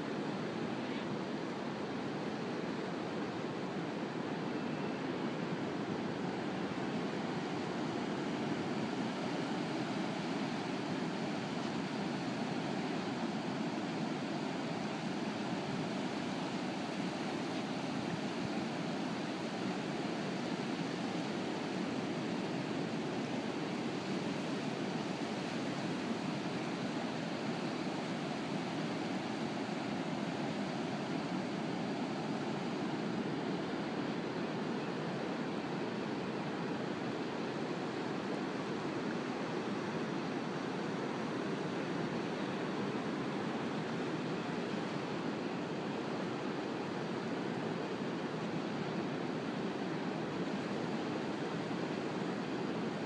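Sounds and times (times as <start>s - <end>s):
ocean surf roar: 0.0s - 53.0s.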